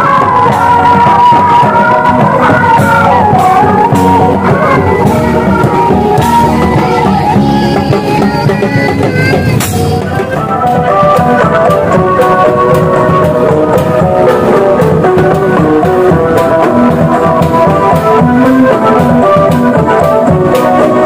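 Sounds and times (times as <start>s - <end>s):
loud music with drums: 0.0s - 21.0s.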